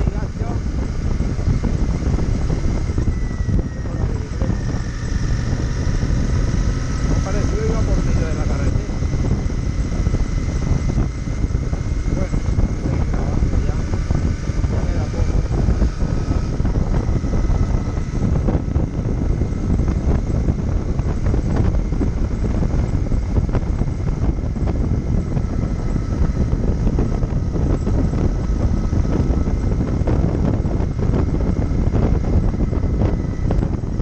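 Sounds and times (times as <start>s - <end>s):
motorcycle engine running: 0.0s - 34.0s
road noise: 0.0s - 34.0s
wind noise: 0.0s - 34.0s.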